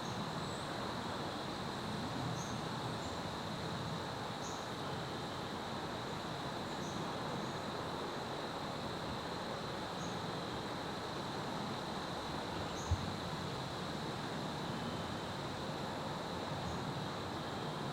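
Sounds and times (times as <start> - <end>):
insect drone: 0.0 - 17.9.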